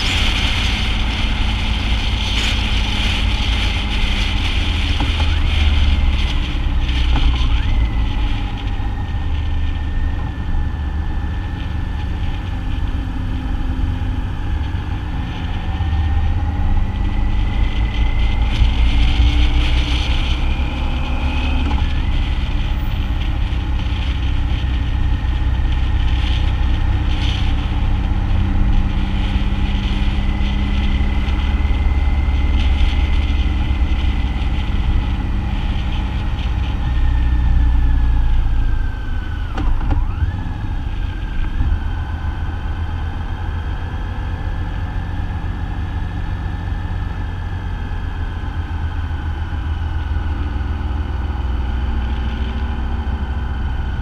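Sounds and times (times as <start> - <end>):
thin whine: 0.0 - 54.0.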